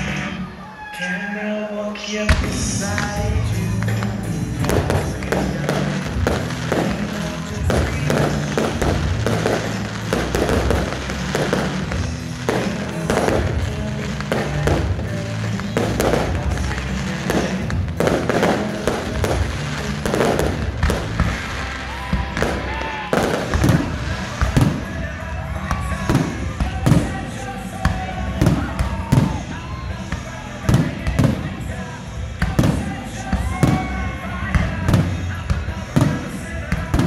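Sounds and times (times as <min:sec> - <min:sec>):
loud music with bass: 0:00.0 - 0:00.7, 0:02.0 - 0:37.0
fireworks bangs and crackles: 0:02.3 - 0:37.0.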